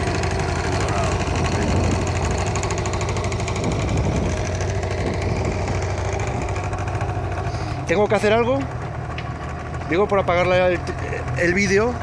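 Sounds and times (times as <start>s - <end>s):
small outboard motor running: 0.0s - 12.0s.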